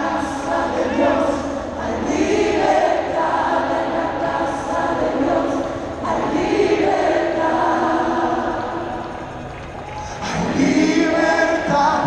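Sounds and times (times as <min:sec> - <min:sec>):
crowd singing along: 0:00.0 - 0:12.0
live worship band: 0:00.0 - 0:12.0.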